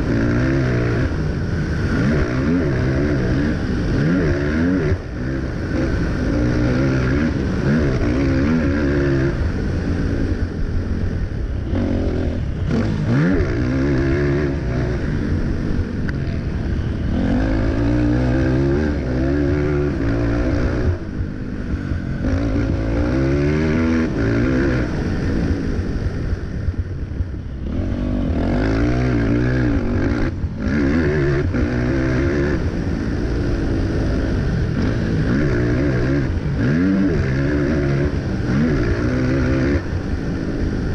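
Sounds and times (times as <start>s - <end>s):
quad engine revving: 0.0s - 26.2s, 27.5s - 40.9s.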